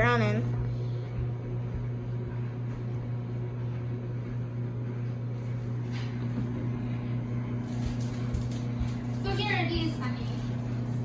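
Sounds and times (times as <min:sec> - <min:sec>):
microwave fan whirring: 0:00.0 - 0:11.0
microwave oven humming: 0:00.0 - 0:11.0.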